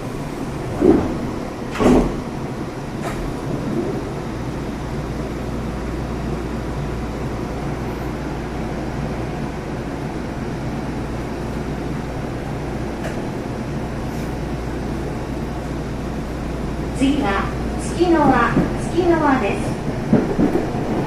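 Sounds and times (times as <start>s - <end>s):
train interior hum and rumble: 0.0s - 21.0s.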